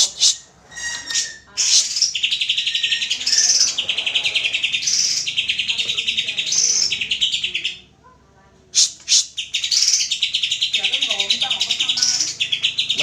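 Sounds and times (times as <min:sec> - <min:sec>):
bird singing buzzy trills: 0:00.0 - 0:07.9, 0:08.8 - 0:13.0.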